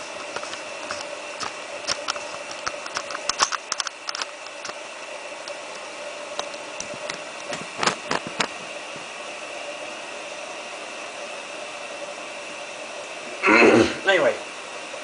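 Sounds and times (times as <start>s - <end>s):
washing machine hissing: 0.0s - 15.0s.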